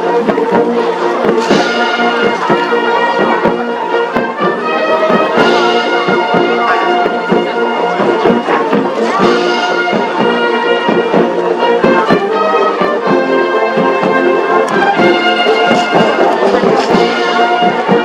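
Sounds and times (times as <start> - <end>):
brass playing march tune: 0.0 - 18.0
steady drum beat: 0.0 - 18.0.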